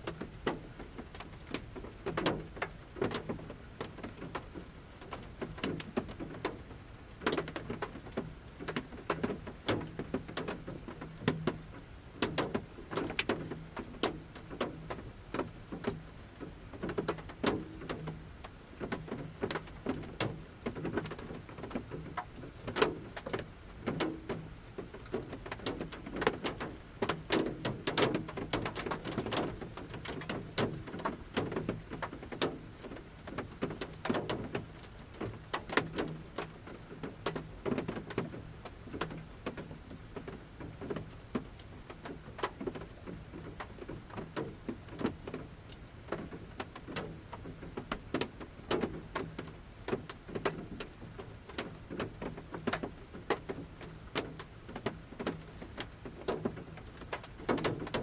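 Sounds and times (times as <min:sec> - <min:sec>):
raindrops pattering on a van roof: 0:00.0 - 0:58.0.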